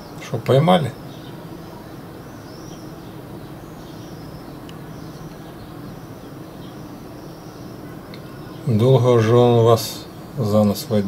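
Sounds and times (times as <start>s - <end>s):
birds chirping: 0.0s - 11.0s
steady background noise: 0.0s - 11.0s.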